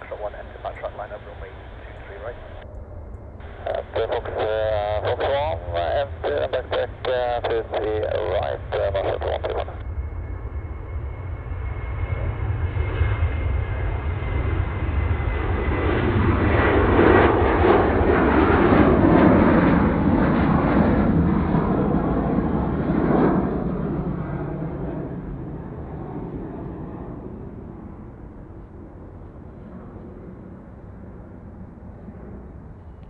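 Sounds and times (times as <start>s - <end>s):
high engine whine: 0.0s - 33.0s
jet airliner engines passing: 0.0s - 33.0s.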